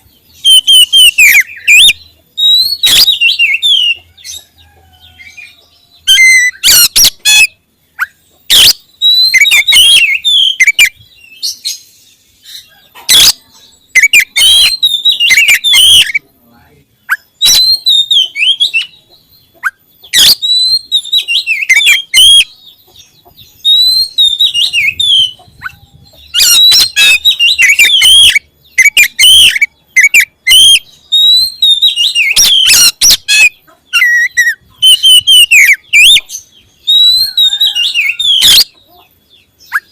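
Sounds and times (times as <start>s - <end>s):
bird singing varied whistles: 0.4s - 4.0s, 6.1s - 11.7s, 13.2s - 16.2s, 17.1s - 19.0s, 19.6s - 22.6s, 23.6s - 38.7s.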